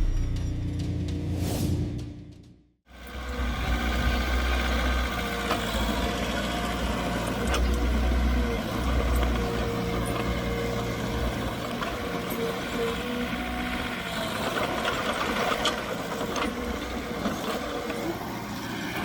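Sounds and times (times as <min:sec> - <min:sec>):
heavy machinery diesel engine rumble: 0:02.9 - 0:19.0.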